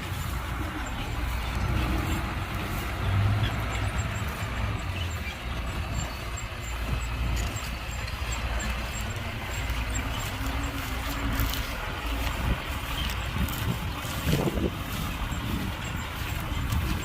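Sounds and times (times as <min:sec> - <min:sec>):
diesel engine low rumble: 0:00.0 - 0:17.0.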